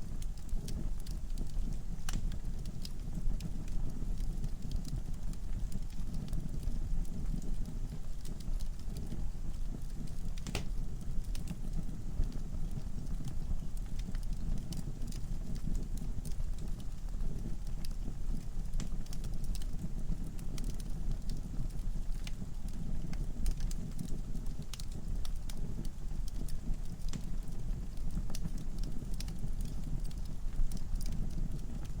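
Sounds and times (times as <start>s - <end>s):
log fire crackling and popping: 0.0s - 32.0s.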